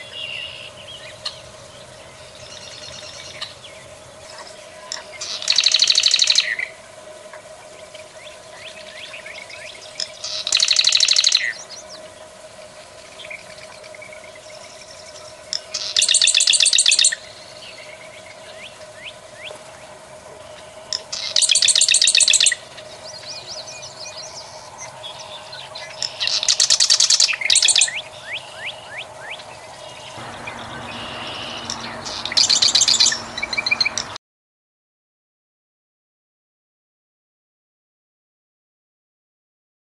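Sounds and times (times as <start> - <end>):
wren rattling trills: 0.0 - 6.9, 7.6 - 34.2.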